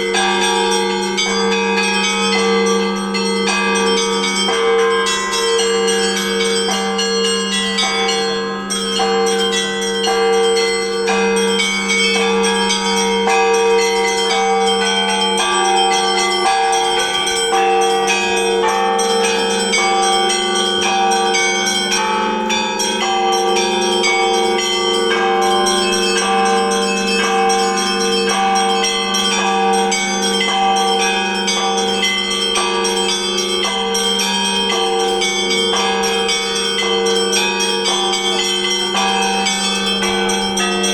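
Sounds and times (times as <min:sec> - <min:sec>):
hum of large bells: 0:00.0 - 0:40.9
small church bells ringing: 0:00.0 - 0:40.9.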